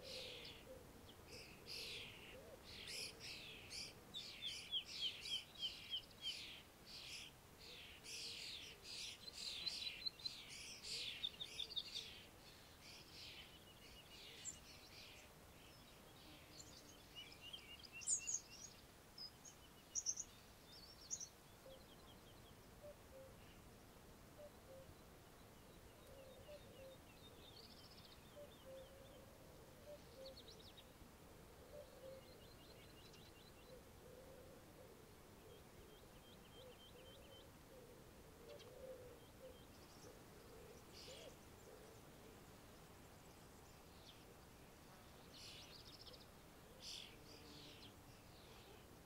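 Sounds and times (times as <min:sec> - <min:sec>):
songbirds chirping and trilling: 0:00.0 - 0:49.0.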